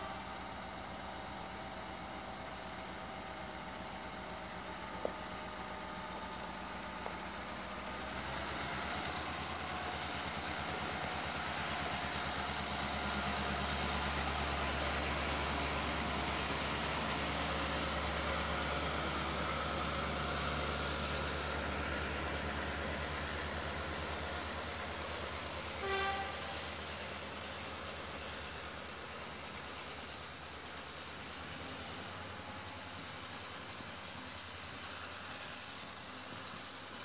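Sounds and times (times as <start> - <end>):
diesel locomotive engine rumbling: 0.0 - 37.0.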